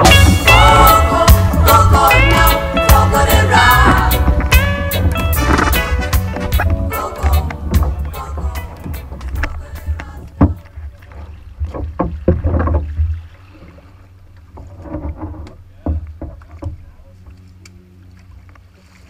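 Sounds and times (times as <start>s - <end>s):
low rumble: 0.0s - 18.6s
water splashing: 0.0s - 19.0s
knocks and thuds against canoe hull: 1.6s - 17.1s.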